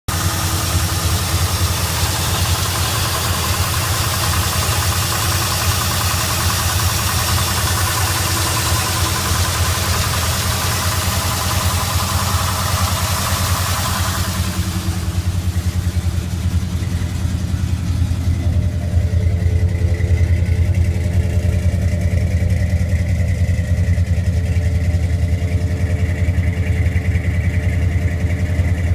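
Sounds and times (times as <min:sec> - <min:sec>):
engine idling: 0:00.0 - 0:28.9.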